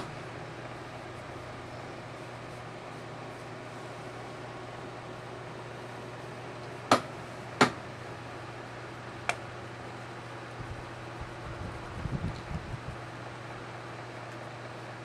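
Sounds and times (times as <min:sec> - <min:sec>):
room fan humming: 0:00.0 - 0:15.0.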